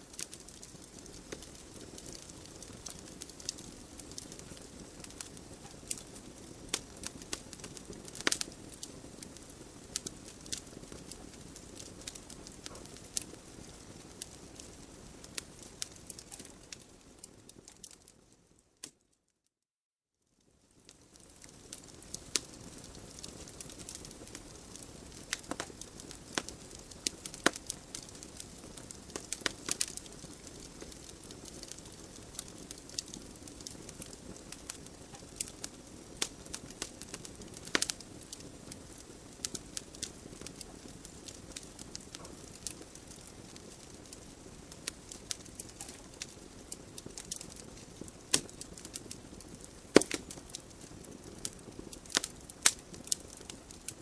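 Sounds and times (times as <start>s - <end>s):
soft hiss of flames: 0.0s - 19.0s, 20.2s - 54.0s
wood logs crackling and popping: 0.0s - 19.0s, 20.6s - 54.0s.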